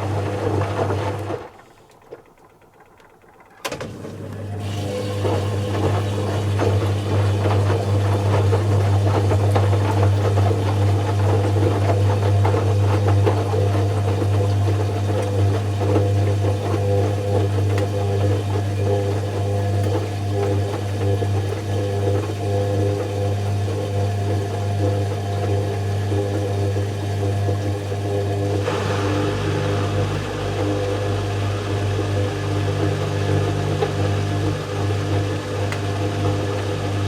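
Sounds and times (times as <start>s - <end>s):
washing machine pump humming: 0.0s - 37.0s.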